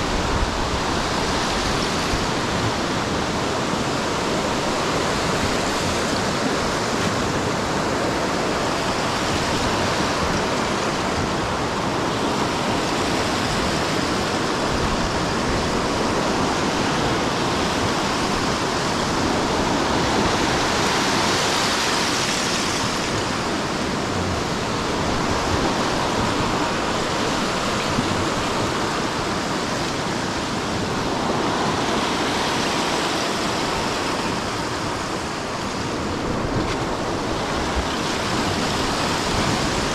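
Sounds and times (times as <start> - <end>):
surf rushing: 0.0 - 39.9
wind: 0.0 - 39.9.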